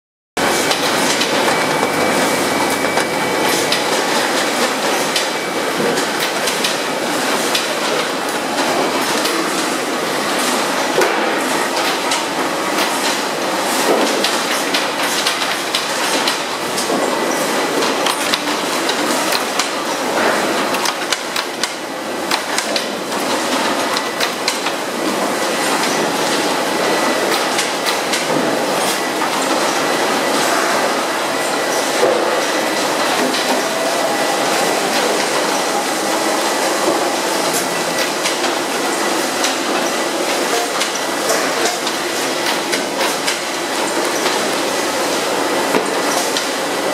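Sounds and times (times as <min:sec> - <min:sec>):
conveyor machine clatter: 0:00.4 - 0:46.9.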